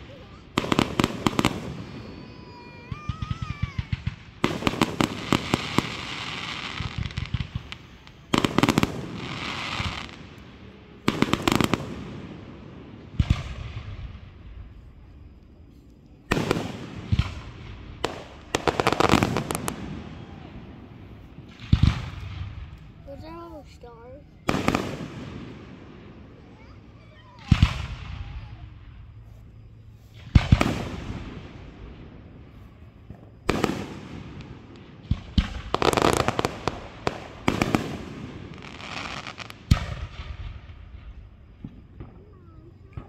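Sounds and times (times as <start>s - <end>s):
fireworks booming: 0.0s - 43.0s
fireworks crackling: 0.0s - 43.0s.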